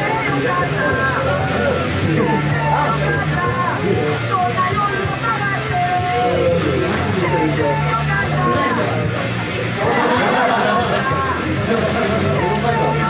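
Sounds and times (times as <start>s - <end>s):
bass notes: 0.0s - 13.0s
person singing: 0.0s - 13.0s
rock band playing: 0.0s - 13.0s.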